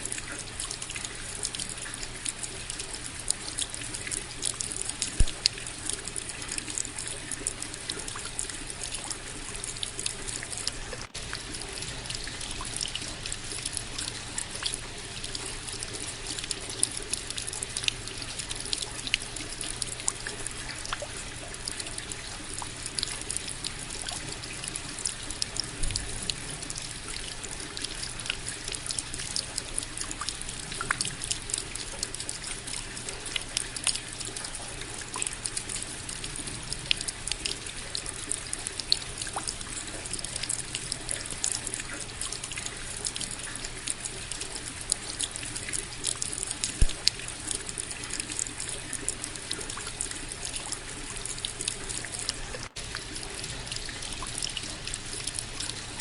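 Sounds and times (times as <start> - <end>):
raindrops ticking: 0.0 - 56.0
steady rainfall: 0.0 - 56.0.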